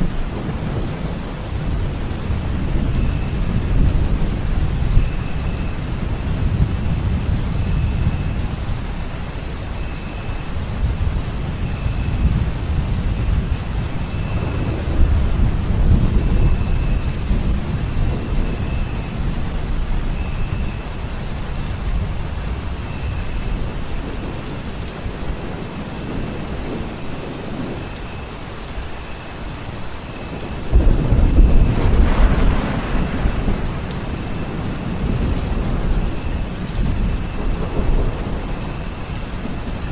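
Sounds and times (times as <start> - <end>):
low rolling thunder: 0.0 - 28.0, 30.2 - 39.9
heavy rain: 0.0 - 39.9.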